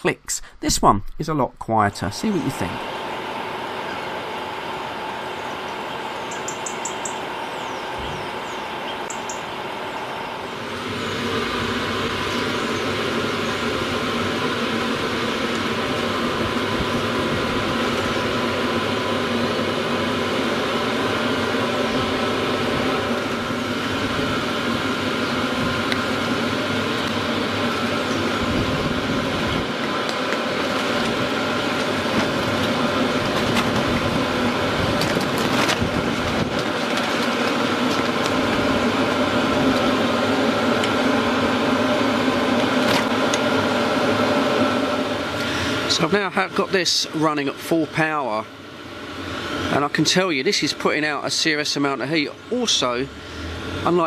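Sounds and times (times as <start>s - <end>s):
faint fan hum: 0.0s - 54.0s
heater blower rush: 0.0s - 54.0s.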